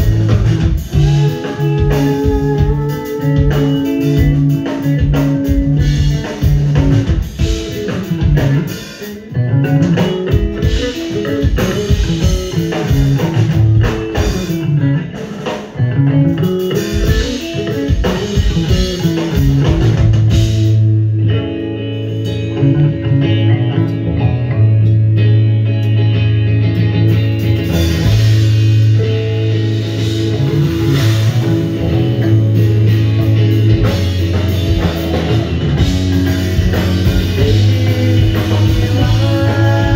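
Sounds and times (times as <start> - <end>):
drum kit: 0.0 - 39.9
electric bass: 0.0 - 39.9
electric guitar: 0.0 - 39.9.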